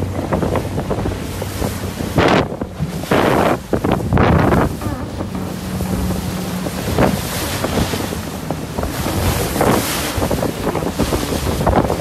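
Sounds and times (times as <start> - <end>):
strong wind buffeting microphone: 0.0 - 12.0
waves splashing: 0.0 - 12.0.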